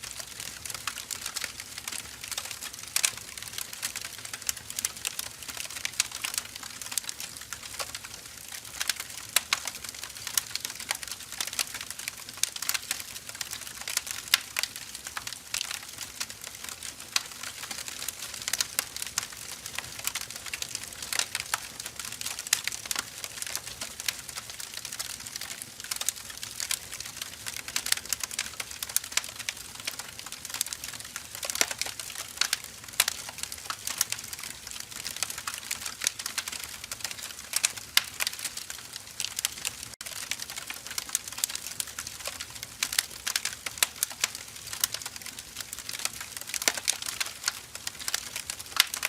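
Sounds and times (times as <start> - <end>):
firewood crackling and popping: 0.0 - 49.0.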